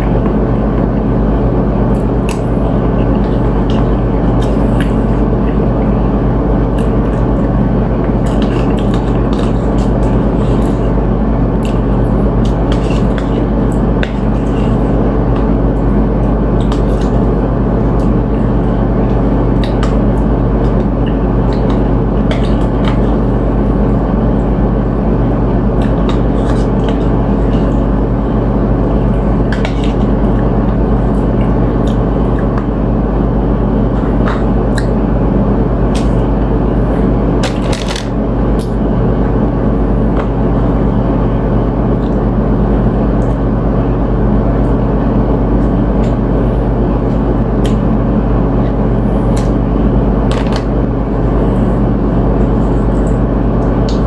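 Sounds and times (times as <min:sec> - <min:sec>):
loud steady low hum: 0:00.0 - 0:54.0.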